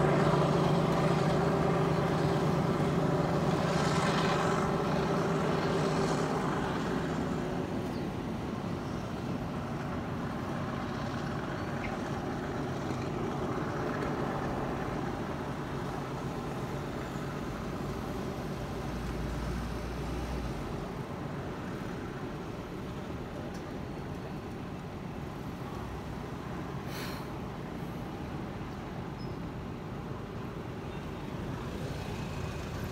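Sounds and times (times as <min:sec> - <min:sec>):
locomotive engine drone: 0:00.0 - 0:32.9
train rumble: 0:00.0 - 0:32.9.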